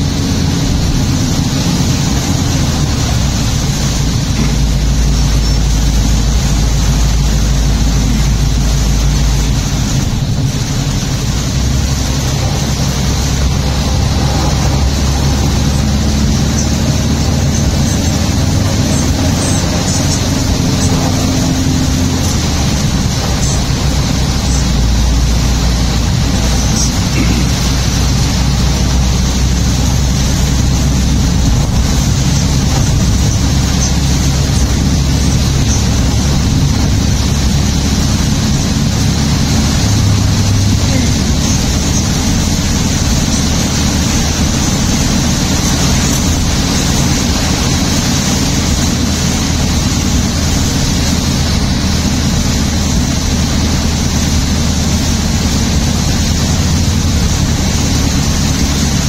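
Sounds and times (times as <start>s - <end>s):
engine and tyres on wet road: 0.0s - 59.0s
hiss of rain and spray: 0.0s - 59.0s.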